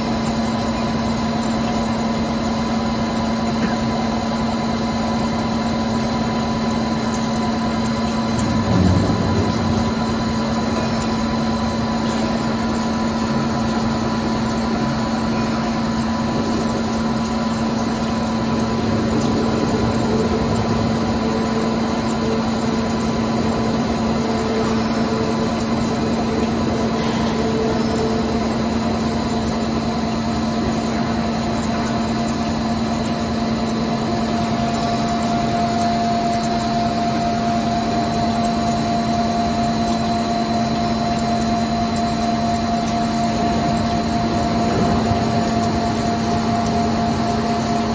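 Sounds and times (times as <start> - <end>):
lathe mechanical hum: 0.0 - 47.9.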